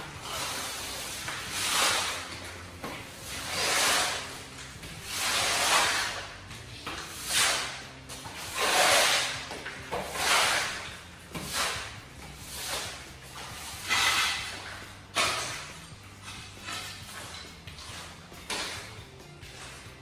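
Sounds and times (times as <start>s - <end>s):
push broom scraping tile debris: 0.0s - 20.0s.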